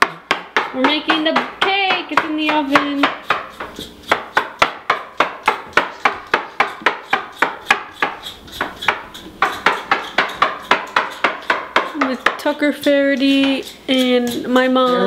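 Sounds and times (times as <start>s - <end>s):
sharp rhythmic clacking: 0.0s - 15.0s.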